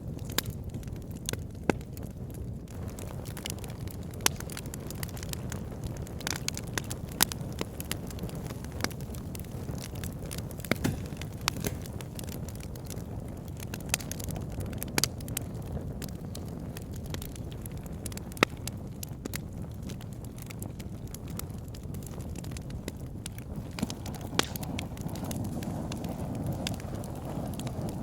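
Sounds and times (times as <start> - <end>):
burning logs popping and crackling: 0.0 - 28.0
low rumble of flames: 0.0 - 28.0.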